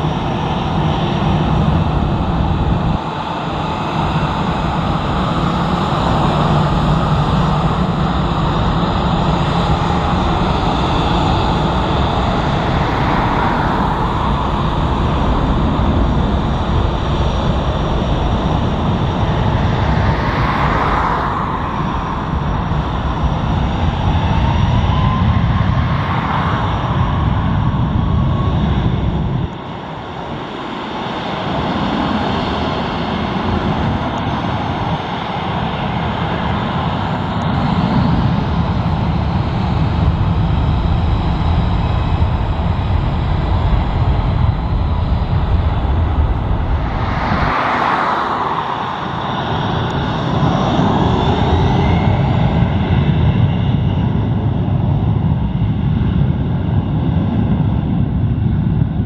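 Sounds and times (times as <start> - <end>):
jet engine whine: 0.0 - 59.0
jet engines rumbling: 0.0 - 59.0.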